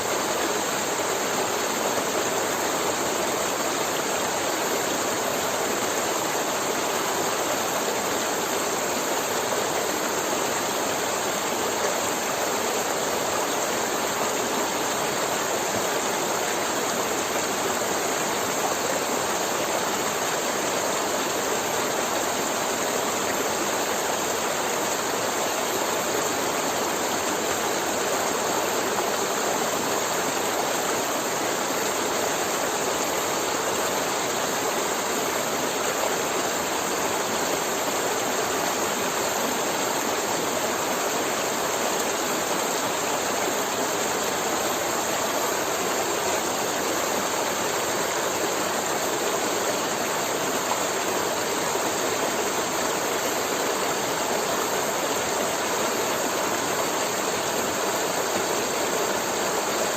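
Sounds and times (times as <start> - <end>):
river water splashing over rocks: 0.0 - 59.9.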